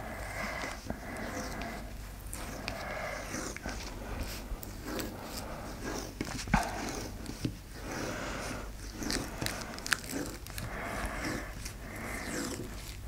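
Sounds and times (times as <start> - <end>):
tape crackling and rustling: 0.0 - 13.0.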